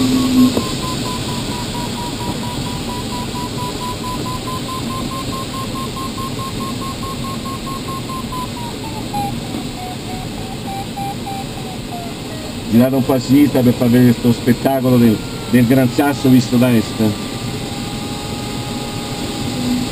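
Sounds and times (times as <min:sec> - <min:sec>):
variometer beeping: 0:00.0 - 0:19.9.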